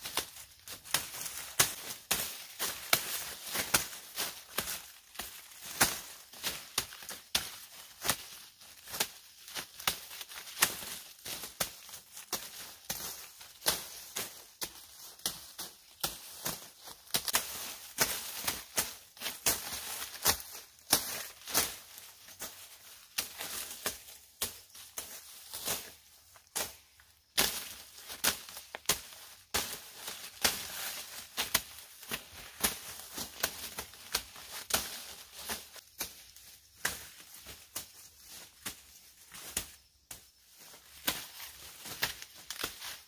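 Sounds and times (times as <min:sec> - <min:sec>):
dry stalks rustling: 0:00.0 - 0:43.0
machete chopping corn stalks: 0:00.0 - 0:43.0.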